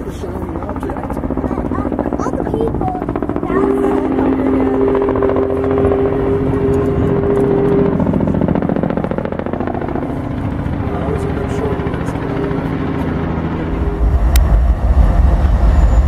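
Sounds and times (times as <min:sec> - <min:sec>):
rapid pulsing rumble: 0:00.0 - 0:16.0.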